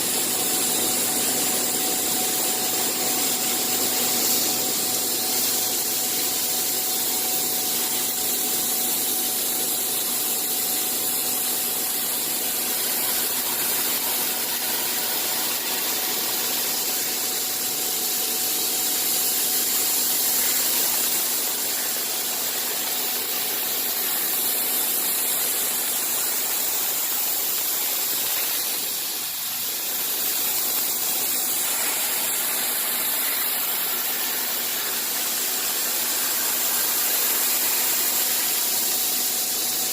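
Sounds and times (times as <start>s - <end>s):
machine hiss: 0.0s - 39.9s.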